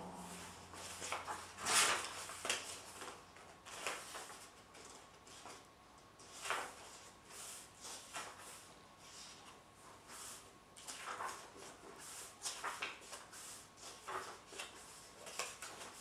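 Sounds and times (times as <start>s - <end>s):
book pages rustling: 0.8s - 5.6s, 6.2s - 16.0s.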